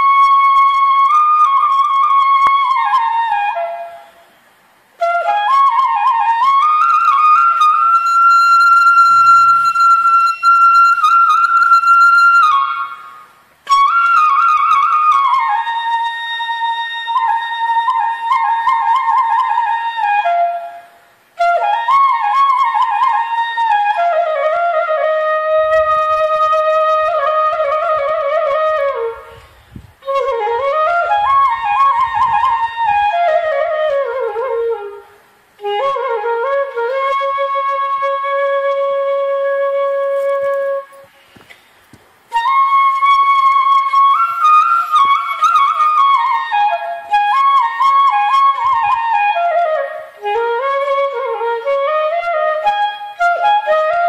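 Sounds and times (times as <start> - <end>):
slow wind instrument melody: 0.0 - 54.0.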